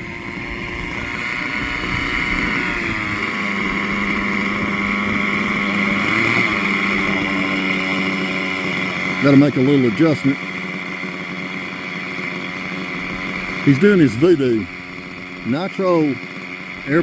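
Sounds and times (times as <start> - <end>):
model helicopter engine running: 0.0 - 17.0.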